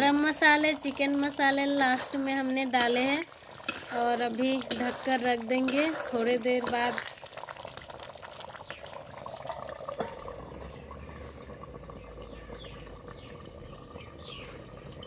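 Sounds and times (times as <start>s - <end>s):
curry bubbling in a pot: 0.0s - 15.0s.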